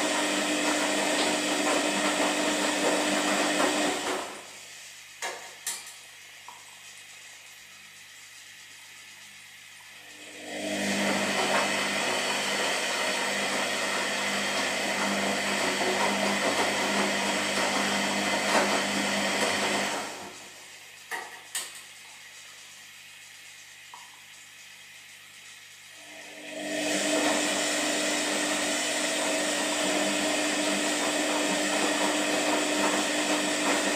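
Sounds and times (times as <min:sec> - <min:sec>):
washing machine drum whirring: 0:00.0 - 0:33.9.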